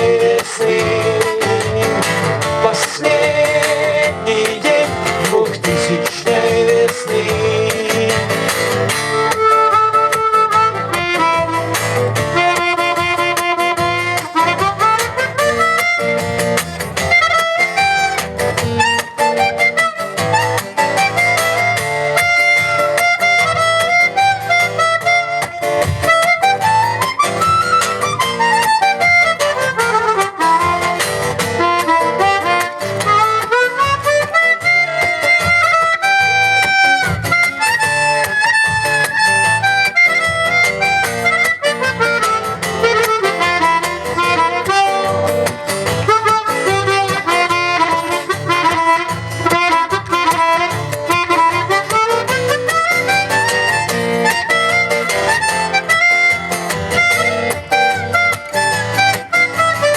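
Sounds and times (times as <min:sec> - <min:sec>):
harmonica solo: 0:00.0 - 0:59.9
strummed acoustic guitar: 0:00.0 - 0:59.9.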